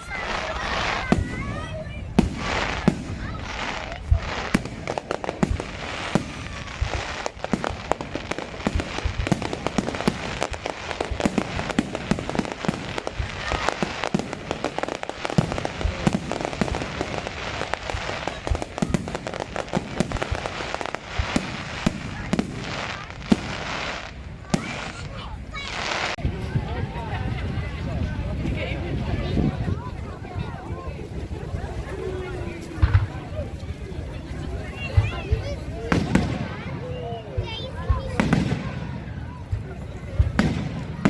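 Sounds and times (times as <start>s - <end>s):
fireworks bangs and crackling: 0.0s - 41.0s
voices in background: 0.0s - 41.0s.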